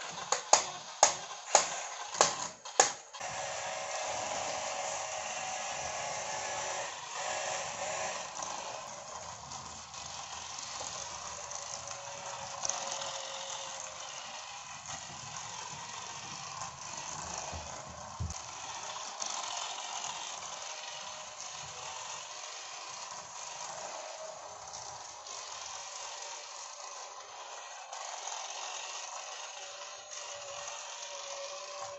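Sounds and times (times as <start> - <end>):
toy motors and gears whirring: 0.0 - 31.9.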